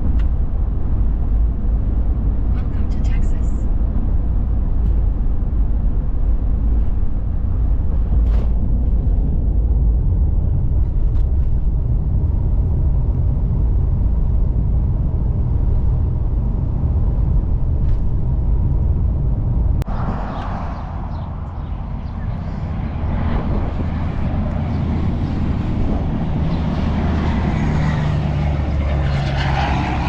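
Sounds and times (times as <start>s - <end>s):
truck road and engine rumble: 0.0s - 30.0s.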